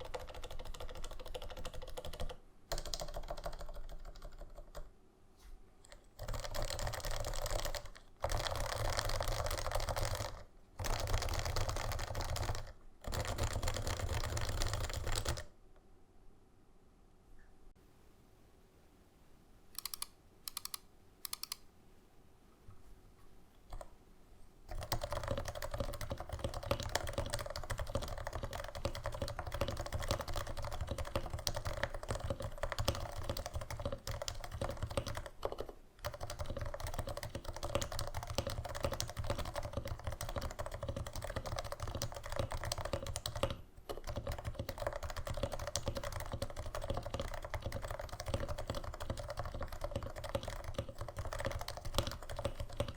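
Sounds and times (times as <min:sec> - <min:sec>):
keyboard typing: 0:00.0 - 0:04.9, 0:05.8 - 0:15.5, 0:19.8 - 0:21.6, 0:23.7 - 0:23.9, 0:24.7 - 0:52.9.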